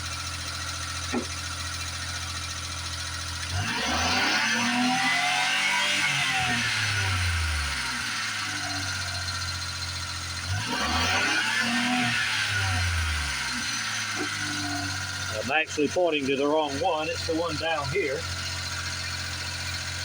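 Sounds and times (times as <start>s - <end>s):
small engine idling and revving: 0.0s - 20.0s.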